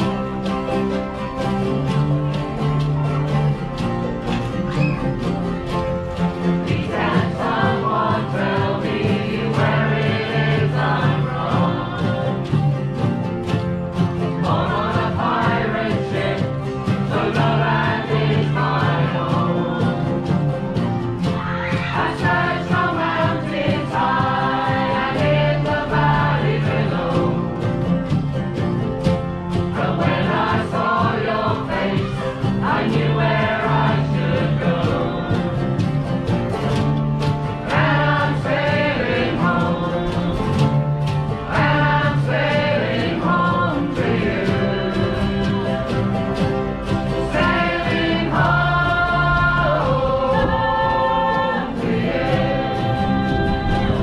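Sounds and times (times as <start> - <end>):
acoustic guitars strumming: 0.0 - 54.0
voices singing together: 0.0 - 54.0.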